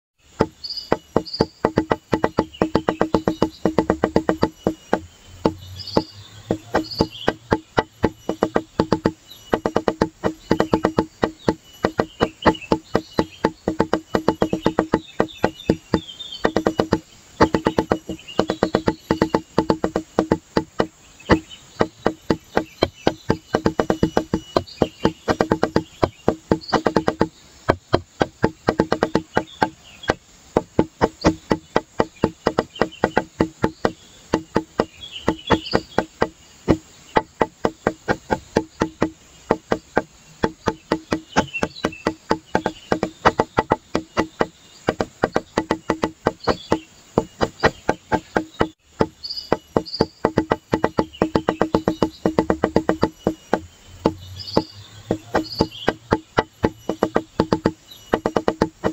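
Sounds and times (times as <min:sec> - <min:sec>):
light percussive music: 0:00.3 - 0:58.9.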